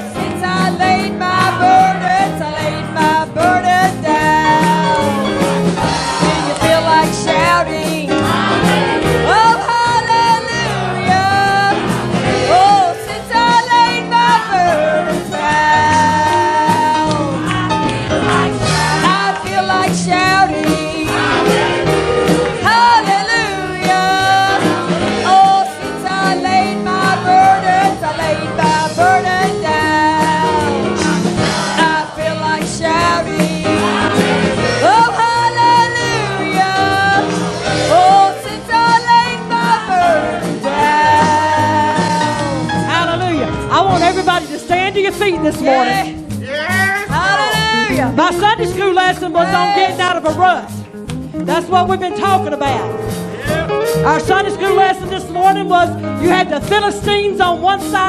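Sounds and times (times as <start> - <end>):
person singing gospel: 0.0 - 50.7, 53.3 - 58.0
church band with steady beat: 0.0 - 58.0.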